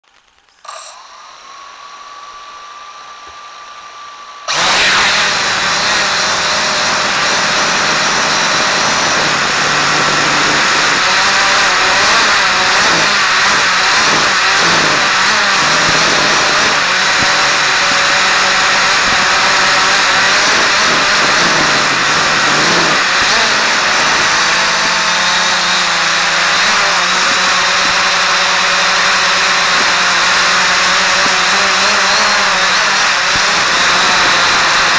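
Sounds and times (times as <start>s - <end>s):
quadcopter motors whining and buzzing: 0.6s - 34.9s.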